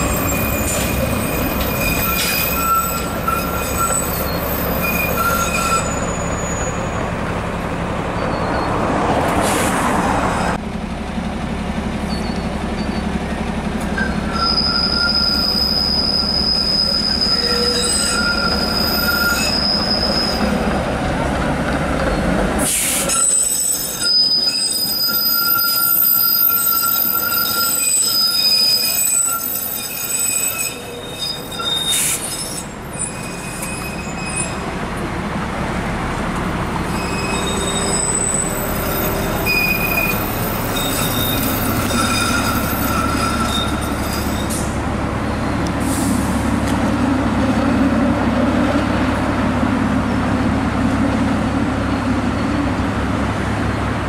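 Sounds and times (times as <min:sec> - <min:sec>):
streetcar wheels squealing: 0:00.0 - 0:10.6, 0:12.0 - 0:53.8
road traffic noise: 0:00.0 - 0:54.0.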